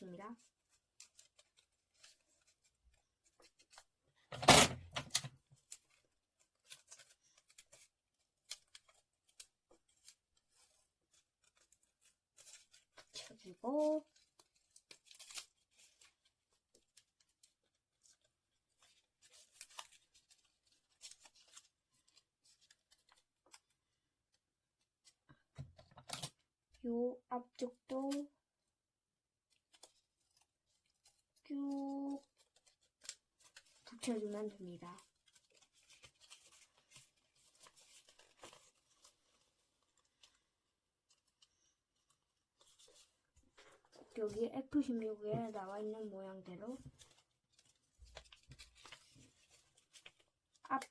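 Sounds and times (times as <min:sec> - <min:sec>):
paper rustling and crackling: 0:00.3 - 0:26.5, 0:29.5 - 0:50.9.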